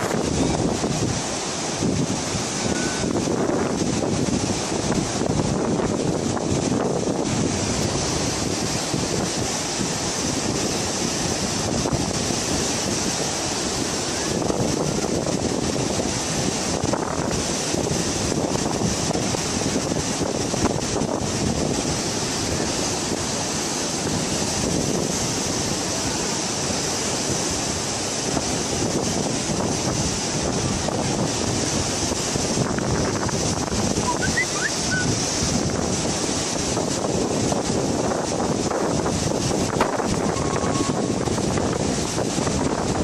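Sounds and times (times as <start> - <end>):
floodwater rushing: 0.0 - 43.0
wind buffeting microphone: 0.0 - 43.0.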